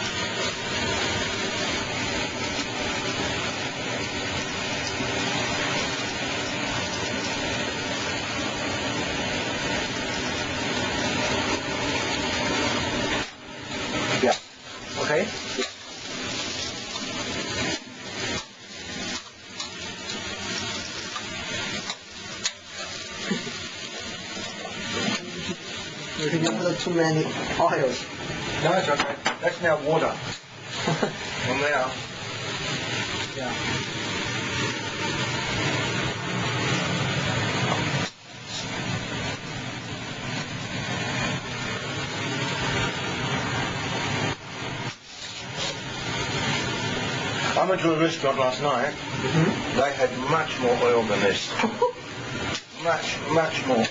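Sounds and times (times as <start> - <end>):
food sizzling in a pan: 0.0 - 53.9.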